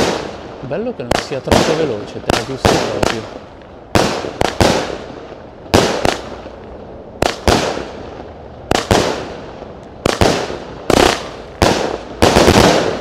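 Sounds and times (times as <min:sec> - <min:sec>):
firework launch report: 0:00.0 - 0:13.0.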